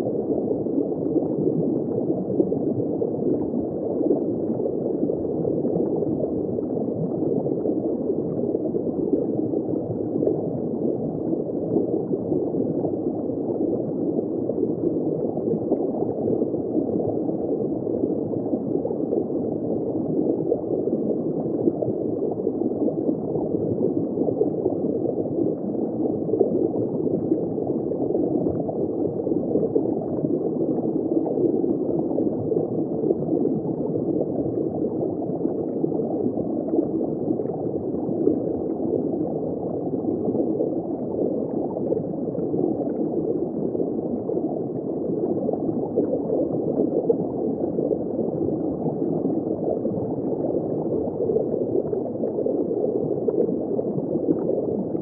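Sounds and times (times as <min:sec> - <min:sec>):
underwater bubbling and water flow: 0:00.0 - 0:55.0.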